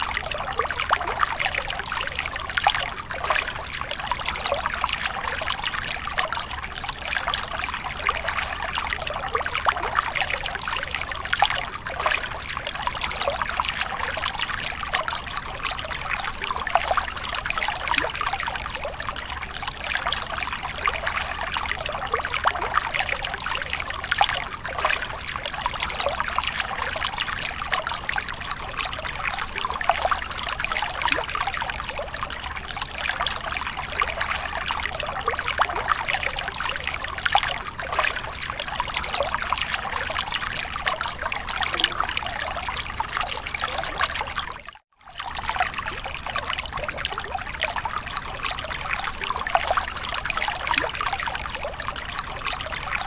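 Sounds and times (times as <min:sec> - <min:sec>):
water trickling over rocks: 0:00.0 - 0:53.0.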